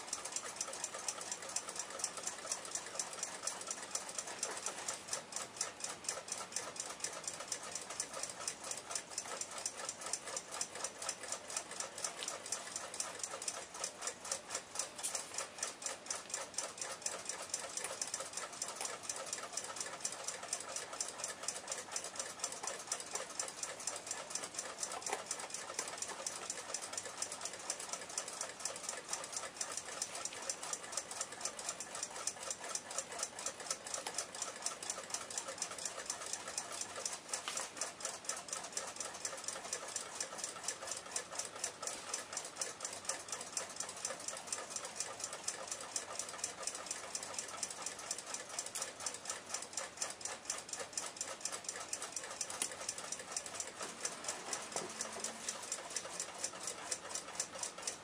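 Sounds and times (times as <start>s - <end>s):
alarm clock ticking rapidly: 0.0s - 58.0s.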